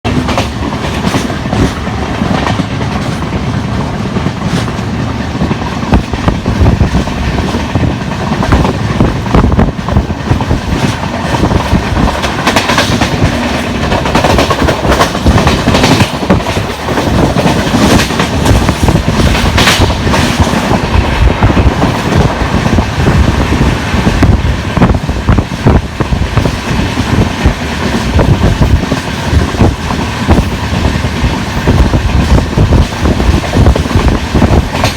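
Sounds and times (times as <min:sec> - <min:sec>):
sharp knocks from train wheels: 0:00.1 - 0:34.9
train wheels clattering on rails: 0:00.1 - 0:34.9.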